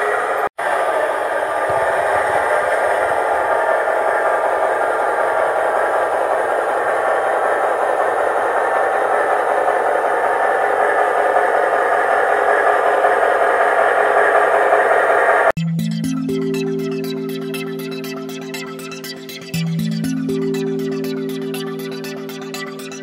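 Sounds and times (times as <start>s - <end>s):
model locomotive engine drone: 0.0s - 15.5s, 16.2s - 23.0s.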